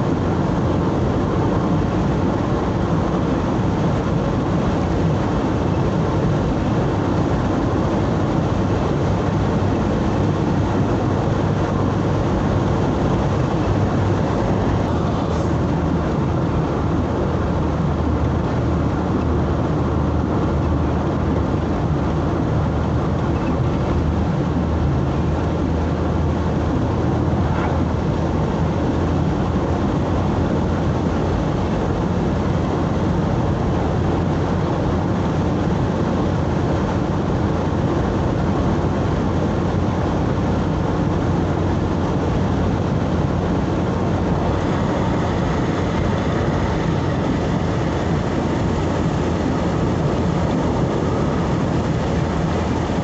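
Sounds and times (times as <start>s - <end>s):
vehicle engine hum and road noise: 0.0s - 53.0s.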